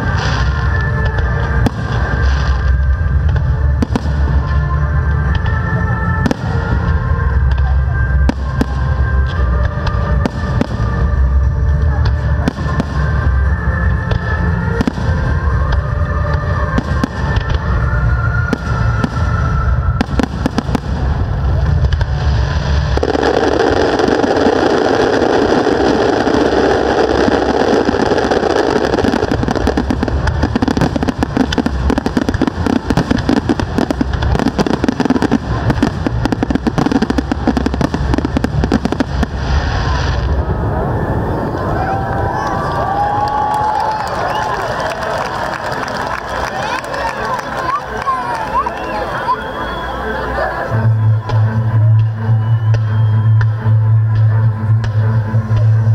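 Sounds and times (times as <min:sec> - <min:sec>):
fireworks bursting and crackling: 0:00.0 - 0:55.9
music playing: 0:00.0 - 0:55.9.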